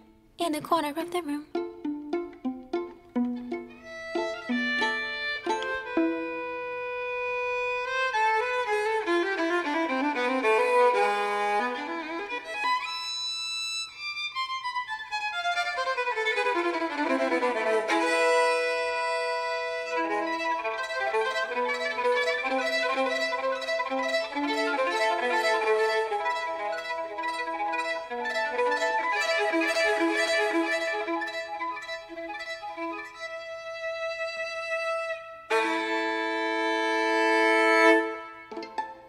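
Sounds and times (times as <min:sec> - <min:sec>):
violin music with quick runs: 0:01.5 - 0:39.0.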